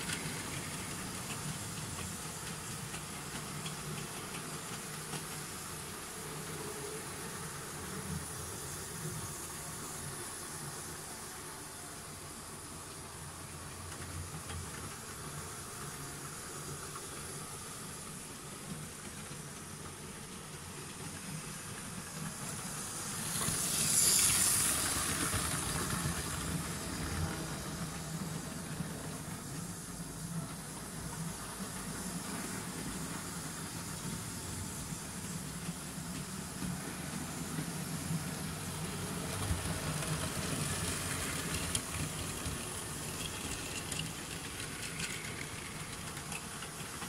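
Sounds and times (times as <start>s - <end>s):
loud hiss: 0.0s - 47.0s
model train motor hum: 0.0s - 47.0s.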